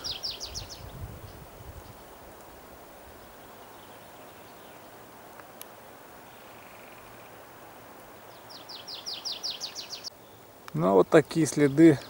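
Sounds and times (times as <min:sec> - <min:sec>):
faint distant bird calls: 0:00.0 - 0:12.0
songbird trill: 0:00.0 - 0:12.0.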